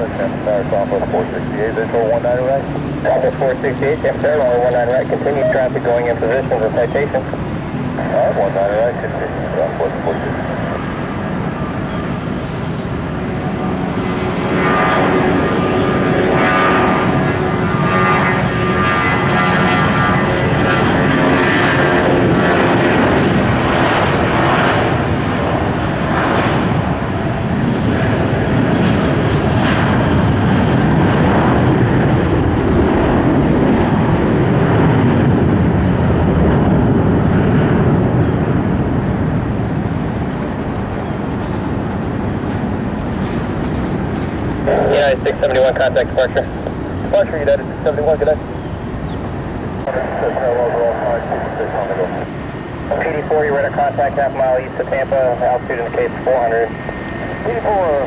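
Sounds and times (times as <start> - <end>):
jet engine whine: 0.0 - 58.0
jet engines roaring: 0.0 - 58.0.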